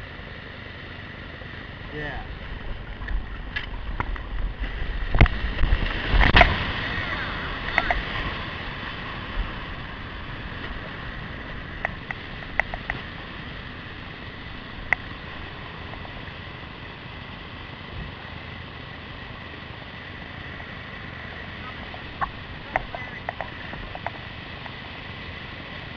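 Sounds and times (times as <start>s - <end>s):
rushing whitewater: 0.3s - 25.9s.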